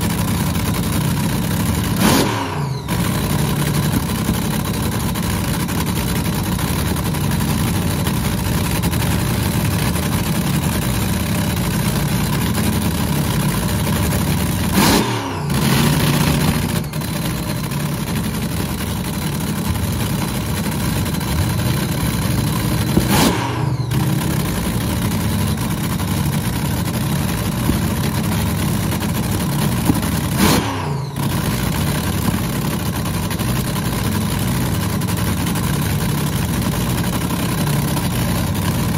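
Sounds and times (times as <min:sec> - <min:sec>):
engine idling and revving: 0:00.0 - 0:38.9.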